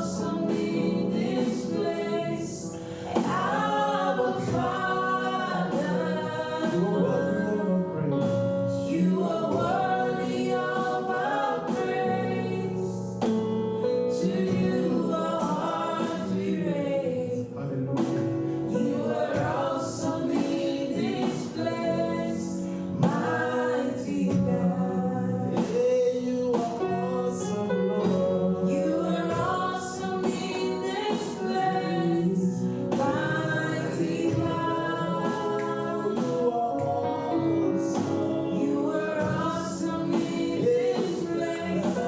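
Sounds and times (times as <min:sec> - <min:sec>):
voices singing sustained notes: 0:00.0 - 0:25.6, 0:26.8 - 0:42.0
gospel worship music: 0:00.0 - 0:42.0.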